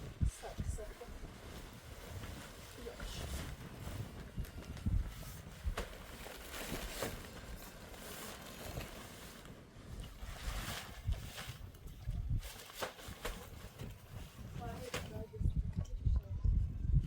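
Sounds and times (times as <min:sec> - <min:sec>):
wind gusting against microphone: 0:00.0 - 0:07.9, 0:09.5 - 0:17.0.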